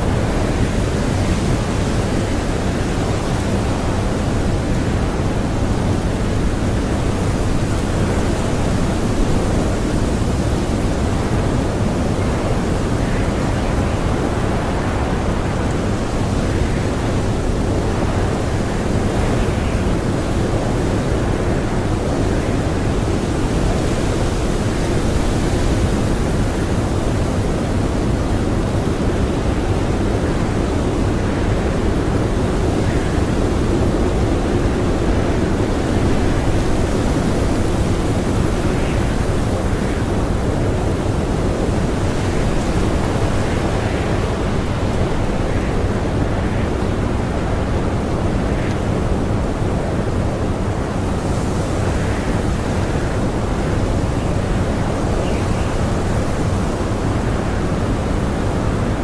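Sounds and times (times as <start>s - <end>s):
blizzard wind howling: 0.0s - 59.0s.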